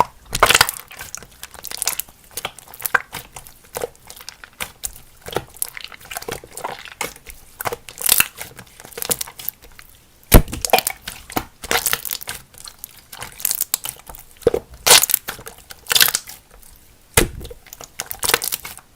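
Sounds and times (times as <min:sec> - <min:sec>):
crinkling and crackling handling: 0:00.0 - 0:18.9.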